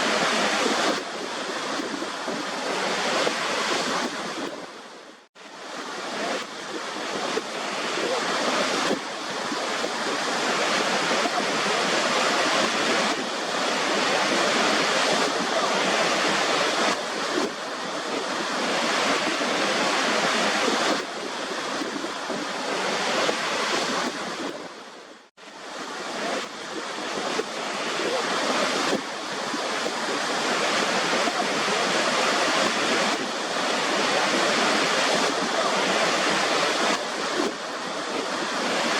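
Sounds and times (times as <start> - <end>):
waterfall rushing: 0.0 - 25.0, 25.6 - 38.9.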